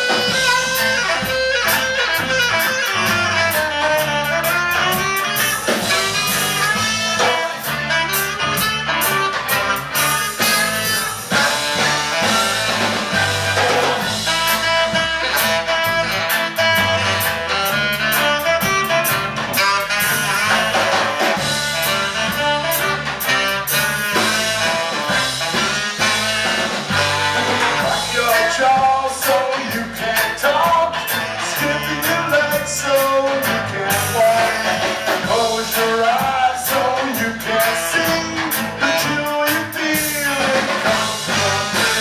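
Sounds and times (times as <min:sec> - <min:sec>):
drum kit beat: 0:00.0 - 0:42.0
electric guitar: 0:00.0 - 0:42.0
live band playing: 0:00.0 - 0:42.0
saxophone: 0:00.0 - 0:42.0.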